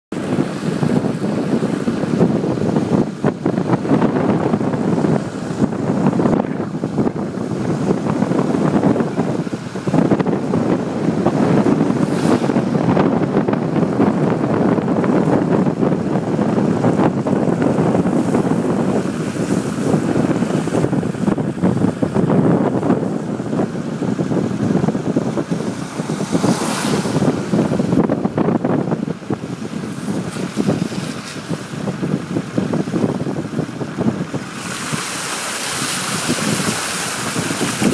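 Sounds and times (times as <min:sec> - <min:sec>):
wind on microphone: 0:00.1 - 0:37.9
car driving through floodwater: 0:00.2 - 0:37.9.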